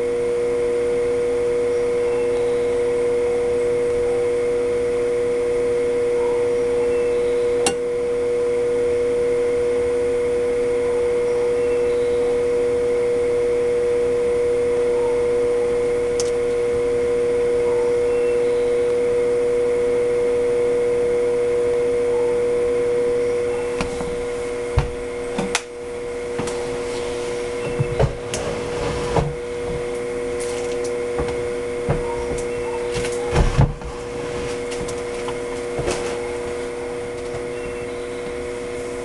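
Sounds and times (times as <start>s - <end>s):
incubator fan humming: 0.0s - 39.0s.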